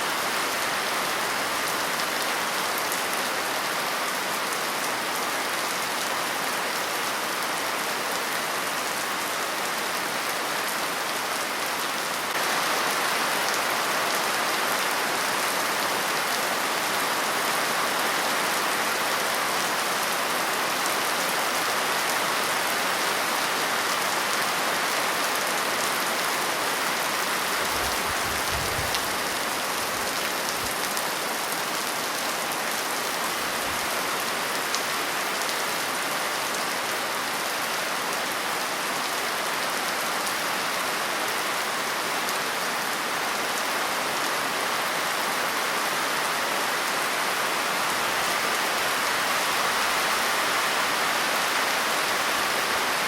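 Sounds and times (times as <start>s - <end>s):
rain patter: 0.0s - 53.0s.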